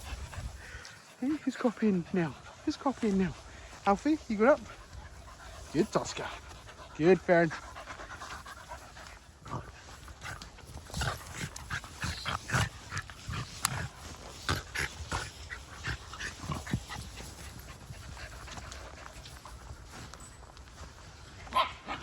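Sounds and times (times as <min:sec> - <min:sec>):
small dogs snorting in play: 0:00.0 - 0:20.0.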